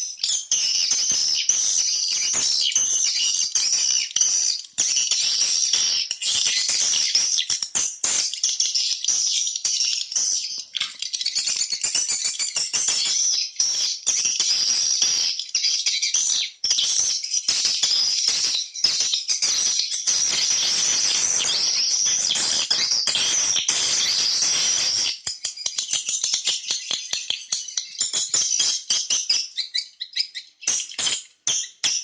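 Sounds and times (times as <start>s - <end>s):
rapid high bird chirps and clicks: 0.0s - 32.0s.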